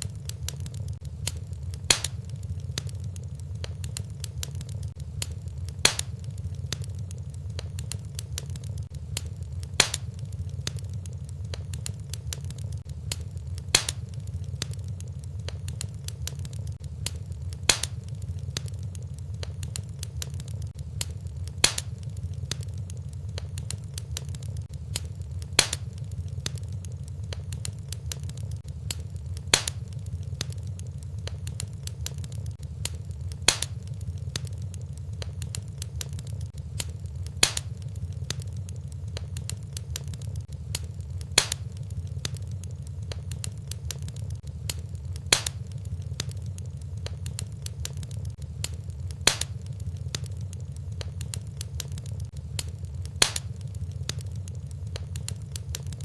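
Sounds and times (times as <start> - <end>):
sharp fire pops: 0.0 - 56.0
wood fire crackling: 0.0 - 56.0.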